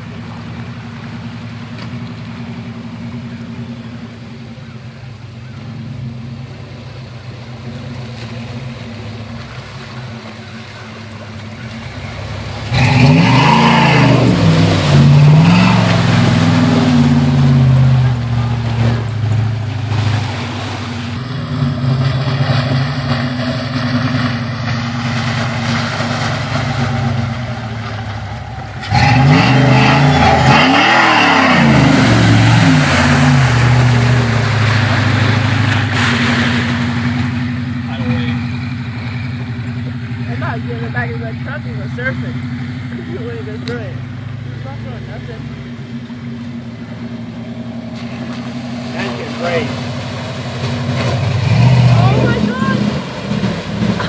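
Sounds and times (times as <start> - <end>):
pickup truck engine revving: 0.0 - 54.0
wheels churning through mud: 0.0 - 54.0.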